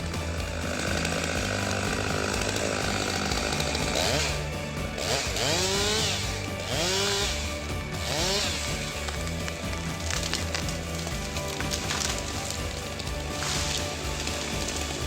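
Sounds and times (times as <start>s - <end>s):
background music: 0.0s - 15.0s
chainsaw revving: 0.0s - 15.0s.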